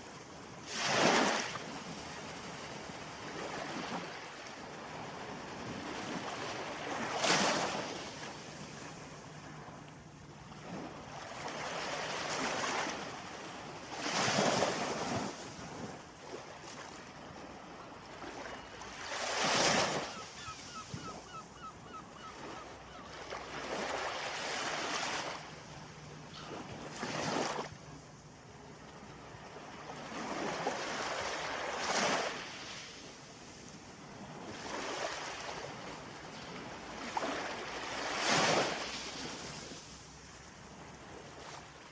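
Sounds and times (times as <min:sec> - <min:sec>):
ocean waves breaking: 0:00.6 - 0:21.4, 0:22.2 - 0:40.0.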